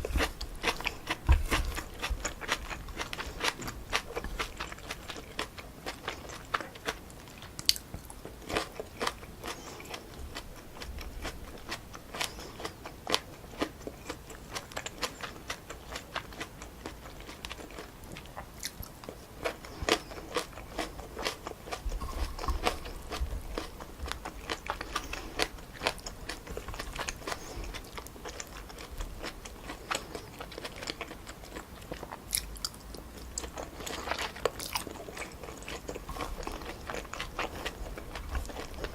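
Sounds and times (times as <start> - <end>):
wet chewing with smacks: 0.0 - 38.9.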